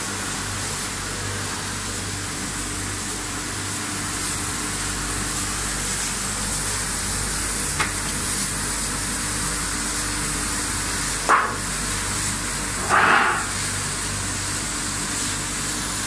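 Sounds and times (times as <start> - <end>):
water spraying hiss: 0.0 - 16.0.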